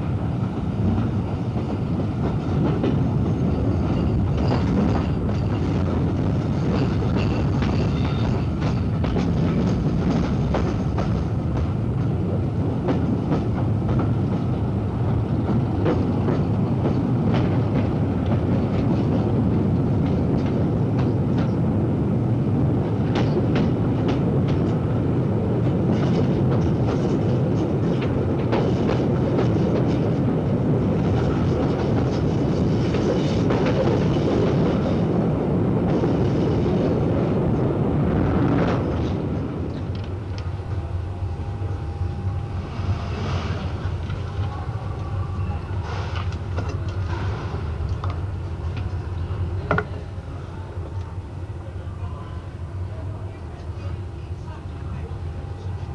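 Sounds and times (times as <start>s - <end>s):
train rumble: 0.0s - 55.9s.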